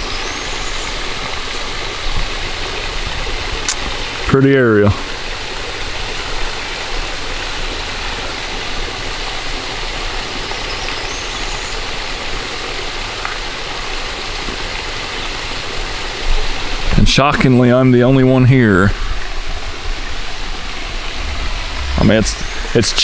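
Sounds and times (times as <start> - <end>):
creek rushing over rocks: 0.0 - 23.0.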